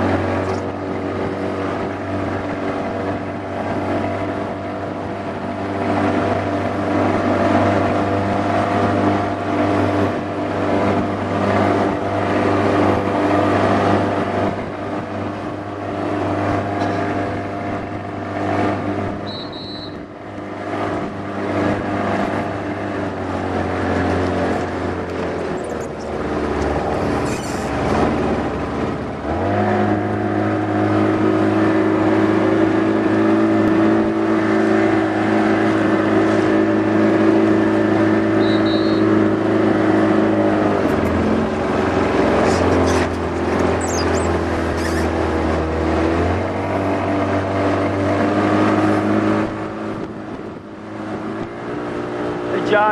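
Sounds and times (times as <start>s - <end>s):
outboard engine running: 0.0s - 52.9s.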